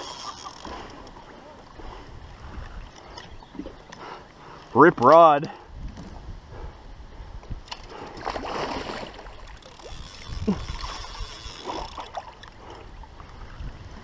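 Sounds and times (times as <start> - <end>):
water splashing around kayak: 0.0 - 14.0.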